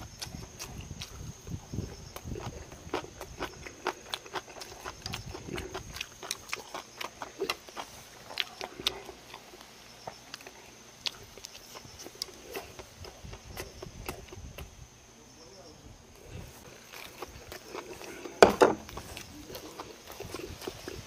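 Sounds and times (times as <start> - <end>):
person chewing with mouth smacks: 0.0 - 14.8, 16.2 - 21.0
high insect trill: 0.0 - 21.0.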